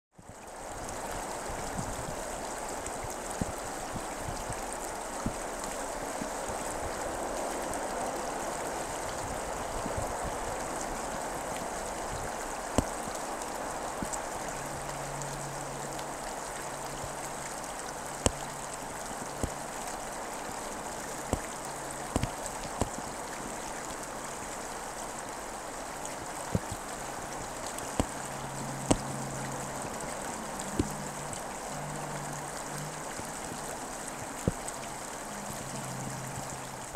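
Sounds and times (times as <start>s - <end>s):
rushing stream water: 0.1s - 36.9s
sharp ticks and splashes: 0.1s - 36.9s.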